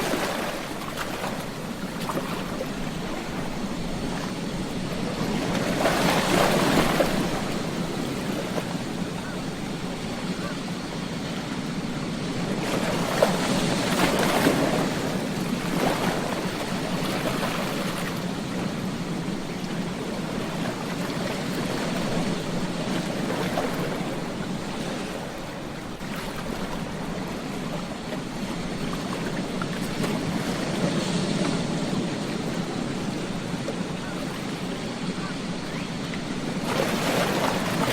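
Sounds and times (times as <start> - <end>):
ocean surf breaking: 0.0 - 37.9.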